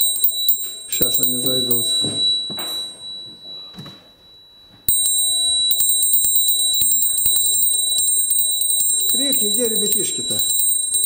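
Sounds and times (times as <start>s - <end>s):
hand bell ringing: 0.0s - 3.6s, 4.9s - 11.0s.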